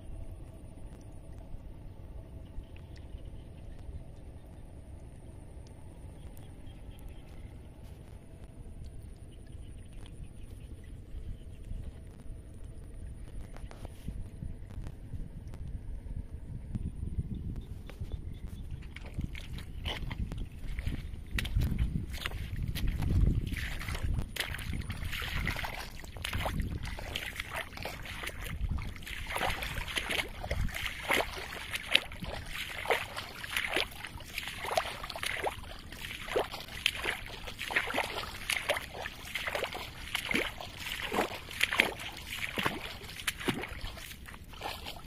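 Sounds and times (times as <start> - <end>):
water and mud sloshing: 0.0 - 16.8, 17.6 - 45.0
low rumble: 0.0 - 45.0.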